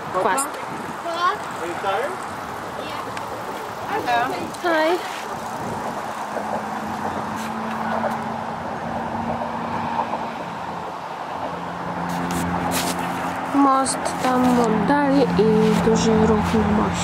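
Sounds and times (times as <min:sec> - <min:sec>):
road traffic on a bridge: 0:00.0 - 0:17.0.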